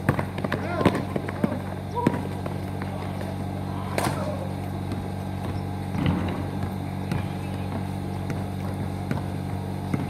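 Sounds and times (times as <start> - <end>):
basketball and feet knocking: 0.0 - 10.0
steady low hum: 0.0 - 10.0.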